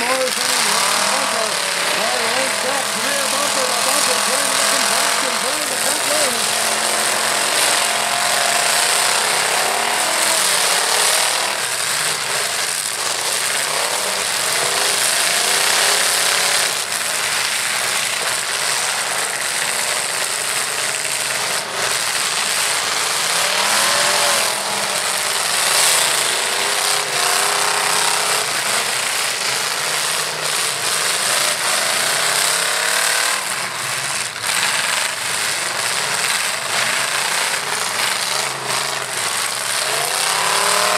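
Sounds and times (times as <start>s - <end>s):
truck engines revving hard: 0.0s - 40.9s.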